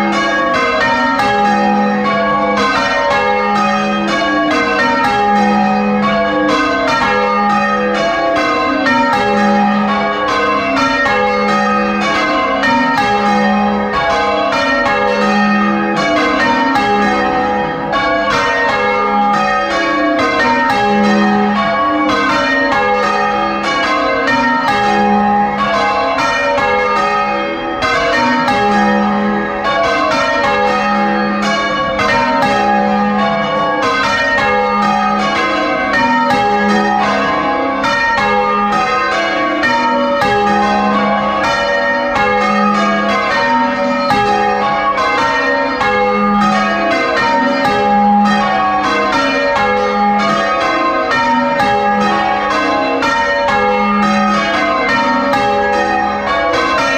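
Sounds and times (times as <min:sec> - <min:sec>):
church bells change ringing: 0:00.0 - 0:56.9.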